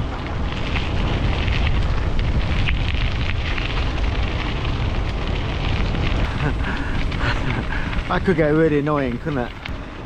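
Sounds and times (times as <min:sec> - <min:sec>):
tyres rolling over dirt path: 0:00.0 - 0:10.0
wind buffeting microphone: 0:00.0 - 0:10.0.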